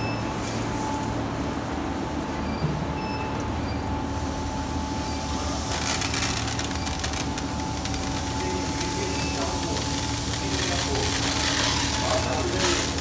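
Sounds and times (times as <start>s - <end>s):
water chiller humming: 0.0s - 13.0s.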